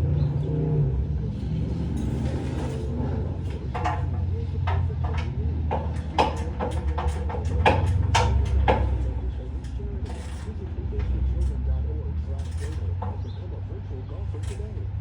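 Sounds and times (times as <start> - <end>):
car driving interior drone: 0.0 - 15.0
sharp clicks and knocks: 1.4 - 15.0.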